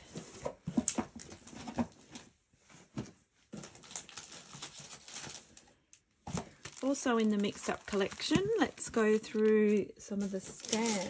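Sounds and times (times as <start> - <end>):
plastic packs rustling and clicking: 0.0 - 11.0.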